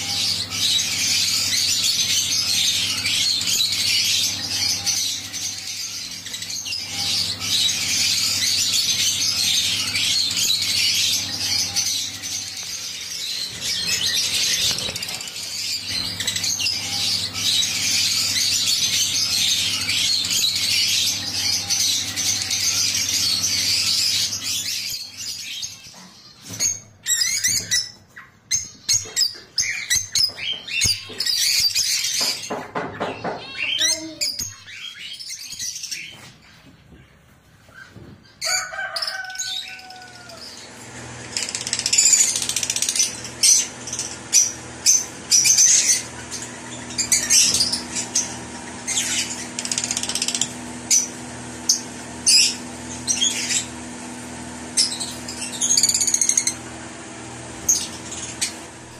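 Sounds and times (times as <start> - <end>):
birds chattering and chirping: 0.0 - 58.9.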